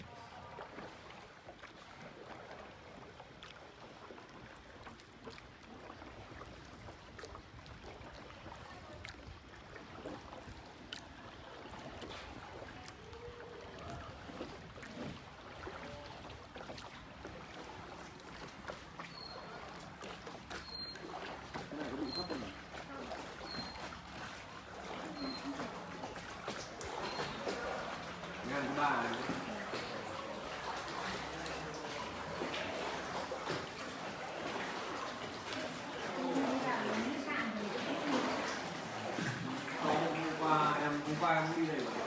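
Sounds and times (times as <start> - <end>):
water washing against boat: 0.0 - 42.0.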